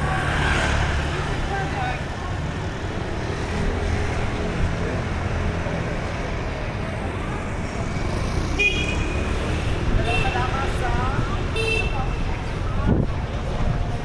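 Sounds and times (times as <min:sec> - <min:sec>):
passing motor vehicles rumble: 0:00.0 - 0:14.0.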